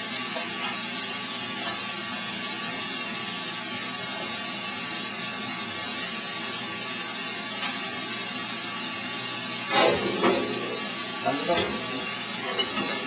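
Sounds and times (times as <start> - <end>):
furnace air blast rushing hiss: 0.0 - 13.0.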